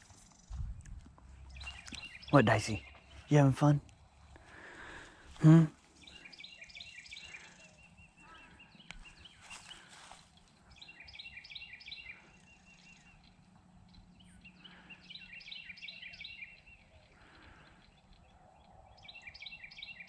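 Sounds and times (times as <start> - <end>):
faint outdoor background noise: 0.0 - 20.0
songbird chirping: 0.0 - 20.0.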